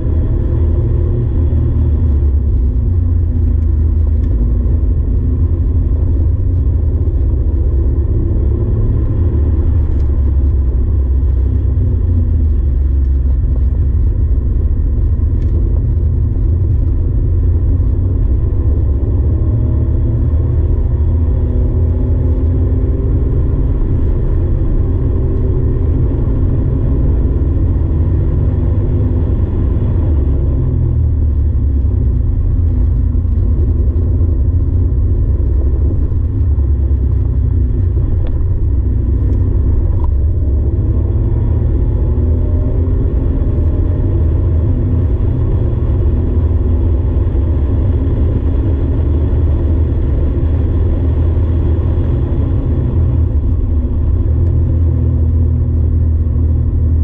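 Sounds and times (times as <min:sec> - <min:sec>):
car engine accelerating in cabin: 0:00.0 - 0:57.0.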